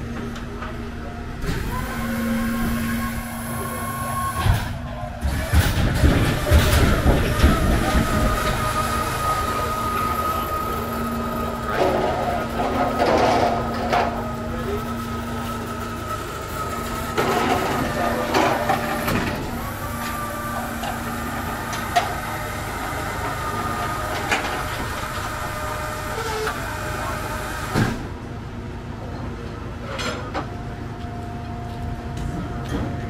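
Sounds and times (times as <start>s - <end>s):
hydraulic pump hum: 0.0s - 29.1s.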